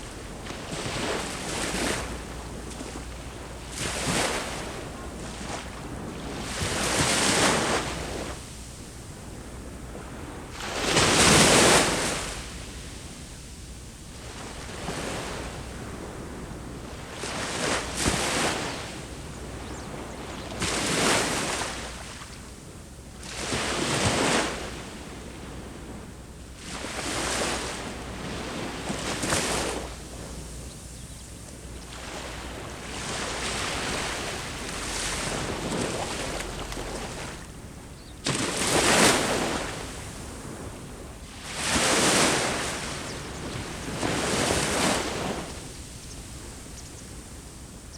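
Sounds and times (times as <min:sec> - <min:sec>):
ocean waves breaking: 0:00.0 - 0:22.4, 0:23.2 - 0:47.9
wind rumble on microphone: 0:00.0 - 0:47.9.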